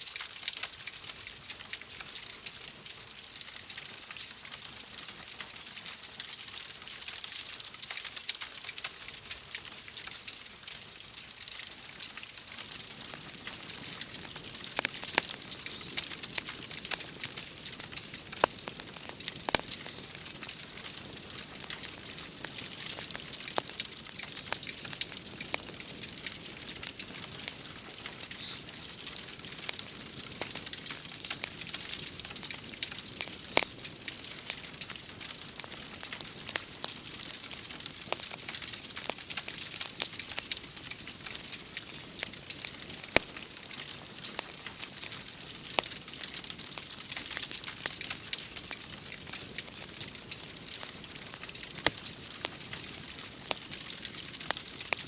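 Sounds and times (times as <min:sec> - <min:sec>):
wood fire crackling and popping: 0:00.0 - 0:55.0
rain hissing: 0:10.0 - 0:55.0.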